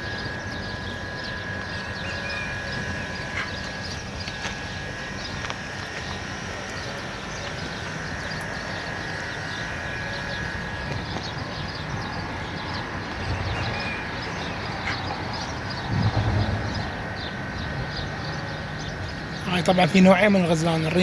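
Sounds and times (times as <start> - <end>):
constant low rumble: 0.0 - 21.0
small birds chirping: 0.0 - 21.0
steady high whine: 0.0 - 21.0.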